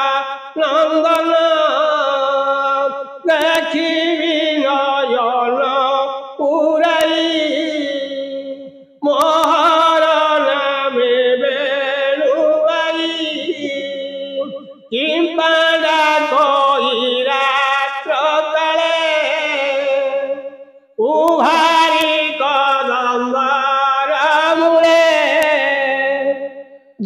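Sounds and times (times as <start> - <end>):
person chanting verses: 0.0 - 26.6.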